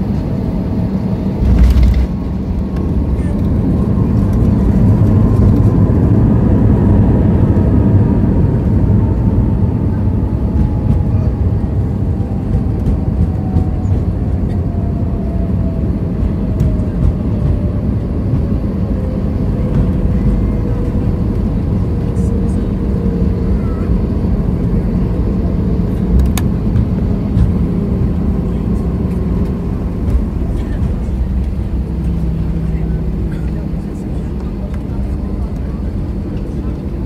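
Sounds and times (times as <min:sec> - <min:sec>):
jet engine whine: 0:00.0 - 0:37.0
wheels rumbling on runway: 0:00.0 - 0:37.0.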